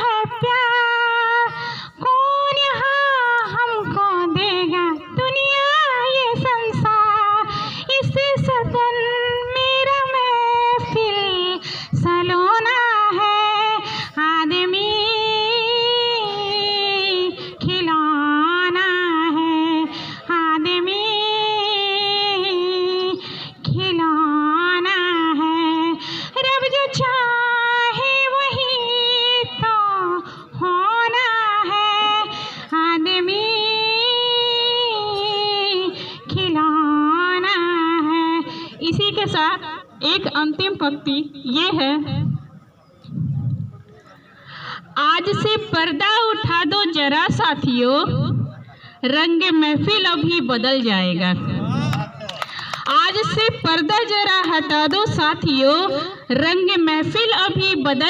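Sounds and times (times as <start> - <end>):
woman singing unaccompanied: 0.0 - 42.2, 52.9 - 58.0.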